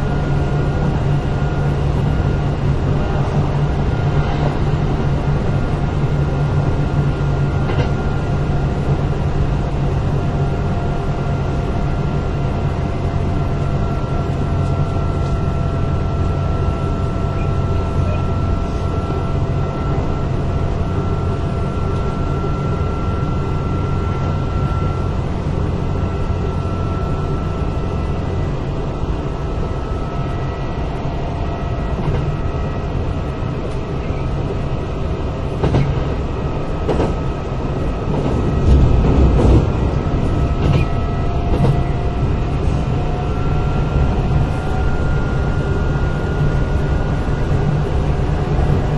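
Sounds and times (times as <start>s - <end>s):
wheels rumbling on rail: 0.0s - 48.9s.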